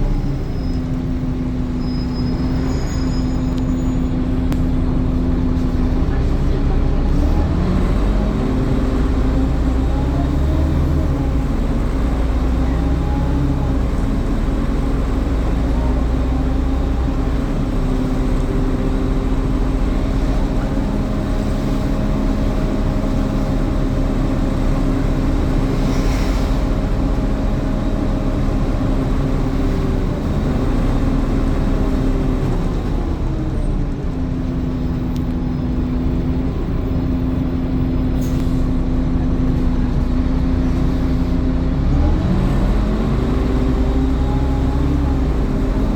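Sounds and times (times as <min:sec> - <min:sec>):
bus engine drone: 0:00.0 - 0:45.9.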